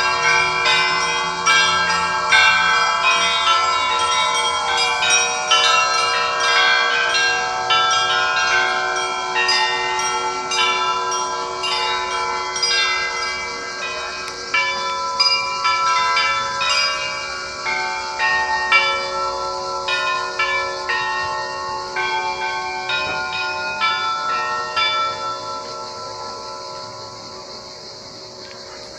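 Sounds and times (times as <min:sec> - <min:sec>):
church bells ringing: 0:00.0 - 0:28.9.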